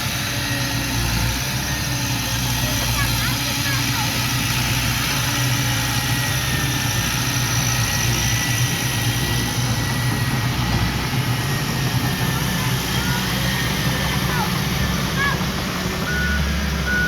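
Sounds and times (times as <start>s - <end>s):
heavy diesel engine rumbling: 0.0s - 17.0s.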